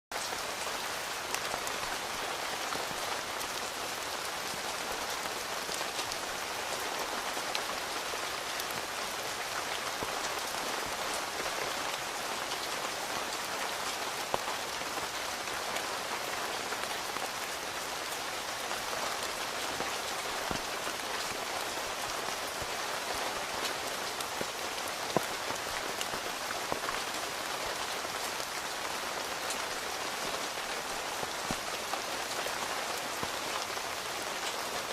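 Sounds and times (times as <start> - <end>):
rain drumming on tent fabric: 0.1 - 34.9.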